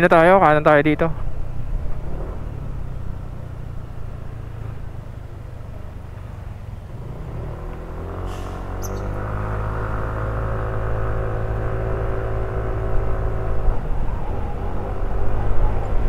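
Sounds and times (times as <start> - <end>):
road and wind noise: 0.0 - 16.0
scooter engine accelerating: 2.1 - 16.0.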